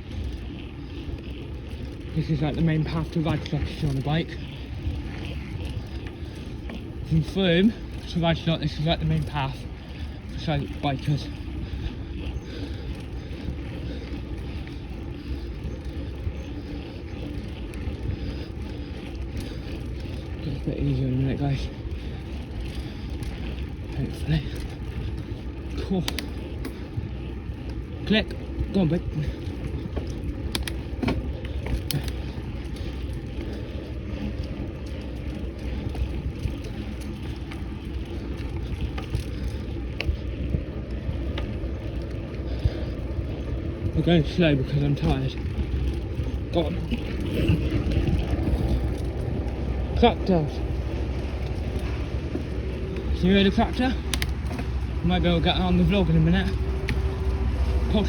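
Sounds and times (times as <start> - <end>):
bicycle tyres rolling: 0.0 - 58.0
wind buffeting microphone: 0.0 - 58.0.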